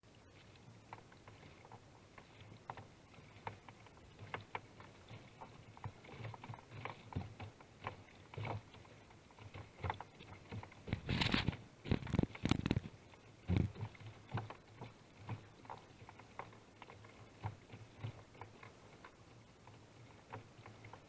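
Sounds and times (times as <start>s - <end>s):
paddle splashes in water: 0.3s - 21.0s.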